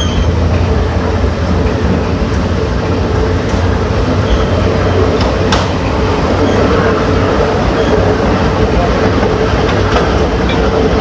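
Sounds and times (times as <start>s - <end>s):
train rumble on track: 0.0s - 11.0s.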